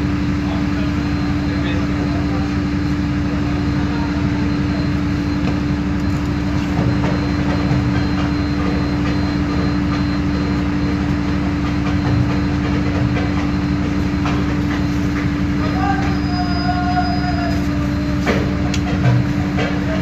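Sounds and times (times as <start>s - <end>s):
diesel bus engine rumble: 0.0s - 20.0s
drivetrain whine: 0.0s - 20.0s.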